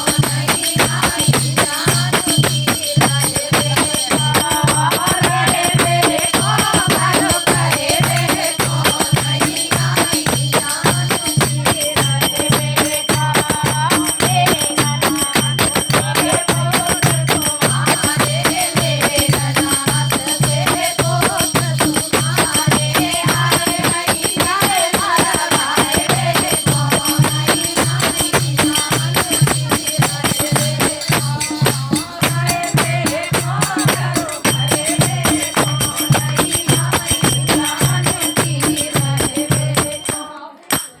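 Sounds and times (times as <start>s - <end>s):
rattling percussion: 0.0s - 41.0s.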